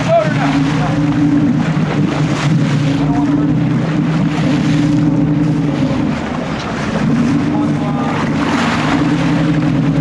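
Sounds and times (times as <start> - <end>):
boat engine humming: 0.0 - 10.0
water washing past hull: 0.0 - 10.0.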